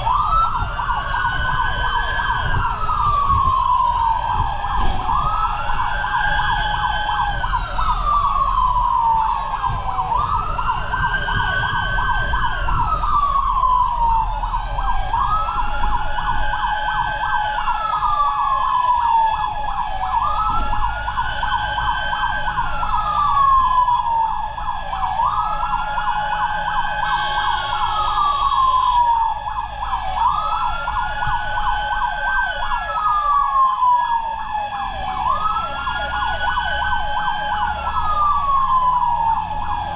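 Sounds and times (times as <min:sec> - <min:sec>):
engine and road rumble: 0:00.0 - 0:39.9
fire truck siren wailing: 0:00.0 - 0:39.9.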